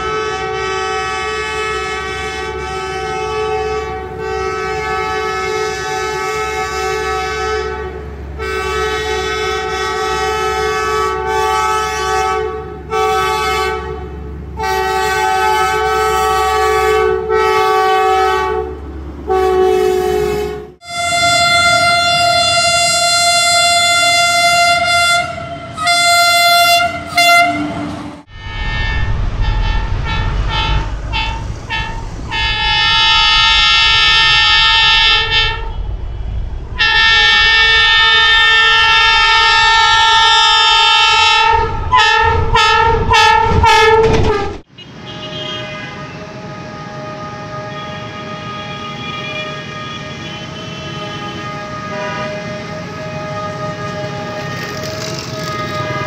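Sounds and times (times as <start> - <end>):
locomotive air horns blasting: 0.0 - 56.0
train rumbling on rails: 0.0 - 56.0.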